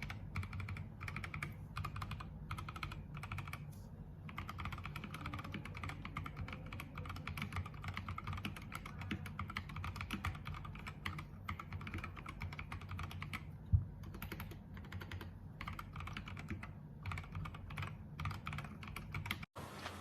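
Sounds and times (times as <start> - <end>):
mechanical keyboard typing: 0.0 - 19.5.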